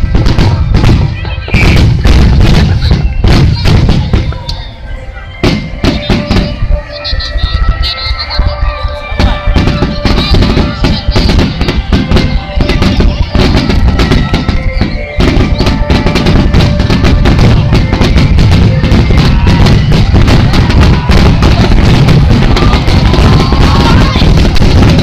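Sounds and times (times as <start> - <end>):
fireworks bursting: 0.0 - 25.0
music playing: 0.0 - 25.0.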